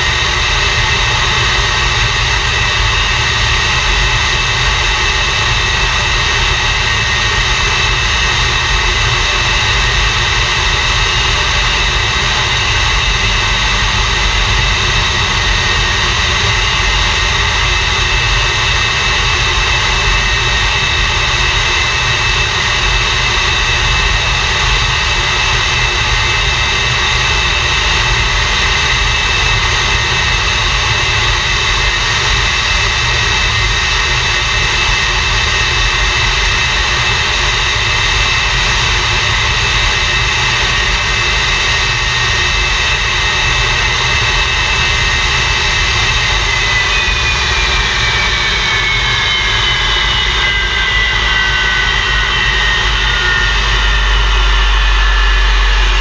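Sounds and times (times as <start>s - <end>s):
jet engine running loud: 0.0s - 56.0s.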